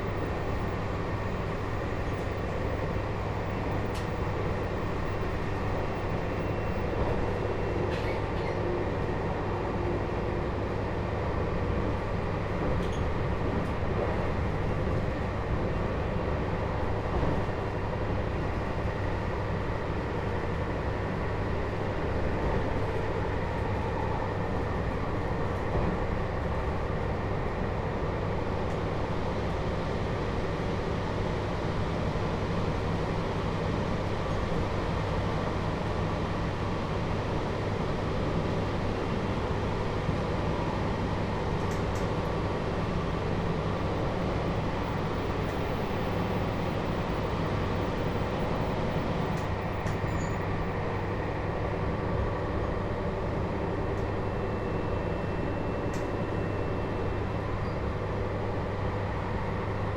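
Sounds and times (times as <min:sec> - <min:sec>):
train interior rumble: 0:00.0 - 0:59.9.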